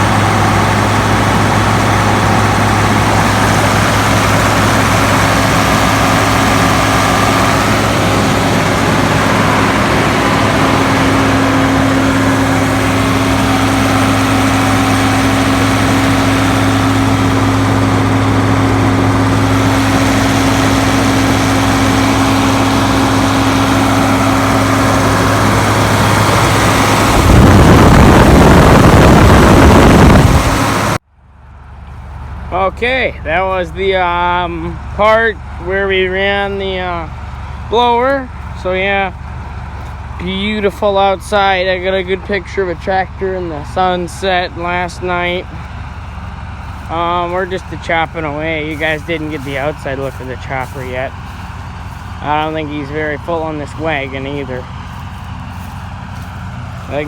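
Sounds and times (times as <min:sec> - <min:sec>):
silage blower whirring: 0:00.0 - 0:31.0, 0:32.0 - 0:57.0
tractor engine hum: 0:00.0 - 0:57.0.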